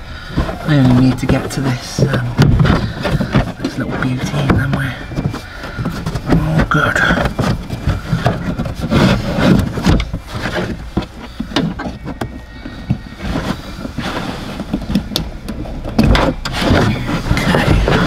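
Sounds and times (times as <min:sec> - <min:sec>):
trim panel rustling and scraping: 0:00.0 - 0:18.0.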